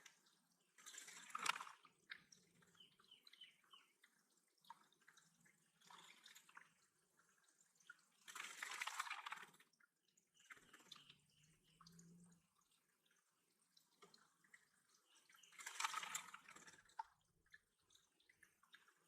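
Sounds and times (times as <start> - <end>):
water splashing: 0.0 - 3.1, 4.0 - 19.0
water dripping: 0.0 - 19.0.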